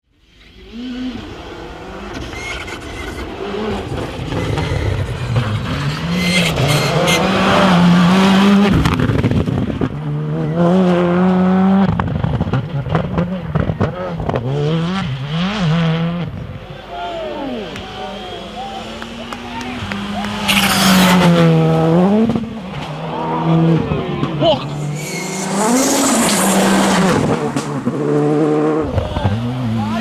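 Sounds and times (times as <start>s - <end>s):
rally car engine revving: 0.4s - 30.0s.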